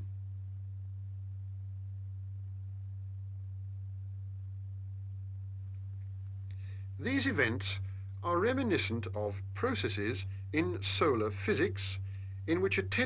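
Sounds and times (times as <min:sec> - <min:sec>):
steady low electronic tone: 0:00.0 - 0:13.0.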